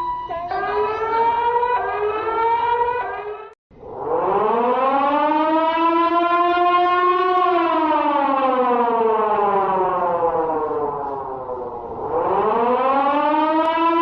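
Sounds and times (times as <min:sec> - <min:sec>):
civil defense siren wailing: 0:00.0 - 0:14.0.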